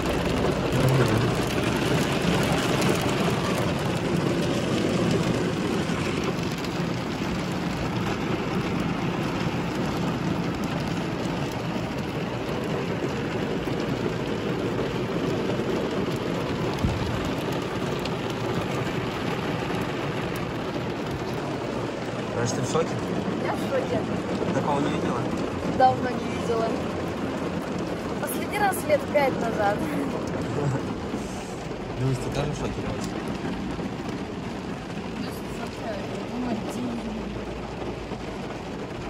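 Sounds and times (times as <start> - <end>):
heavy rain on a car roof: 0.0 - 39.0.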